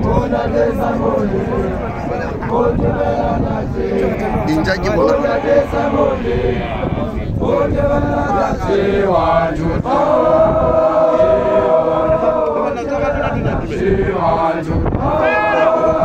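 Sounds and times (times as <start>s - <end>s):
male group chanting: 0.0s - 16.0s.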